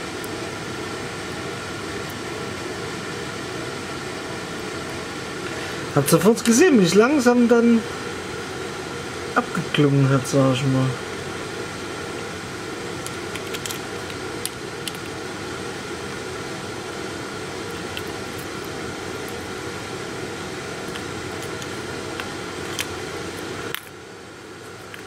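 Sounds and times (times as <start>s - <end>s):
steady fan-like hiss: 0.0s - 25.0s.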